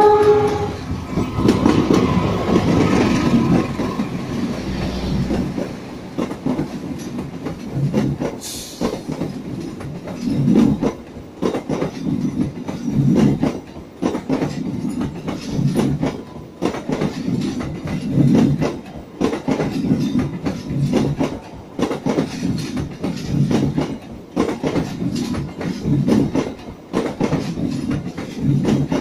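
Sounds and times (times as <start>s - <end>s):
steady train rumble: 0.0s - 29.0s
train wheels clattering over rail joints: 0.0s - 29.0s.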